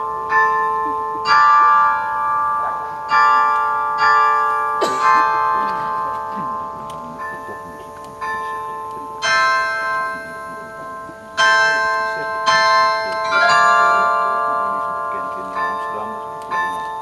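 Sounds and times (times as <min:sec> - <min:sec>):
carillon bells slow melody: 0:00.0 - 0:17.0.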